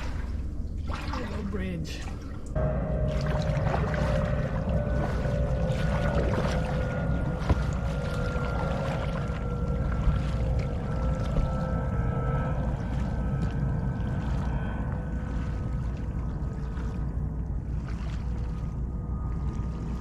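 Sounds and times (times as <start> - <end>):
kayak paddling in water: 0.0 - 20.0.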